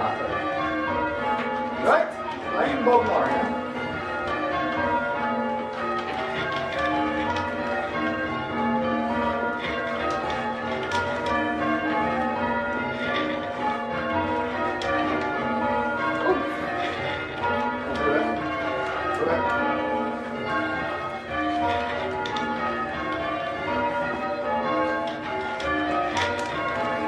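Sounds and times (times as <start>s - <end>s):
church bells change ringing: 0.0s - 27.0s.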